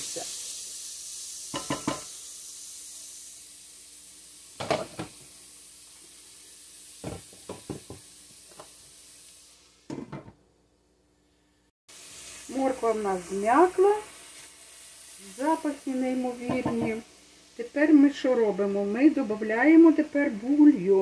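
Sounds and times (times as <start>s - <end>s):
vegetables sizzling in oil: 0.0s - 10.6s, 11.9s - 21.0s.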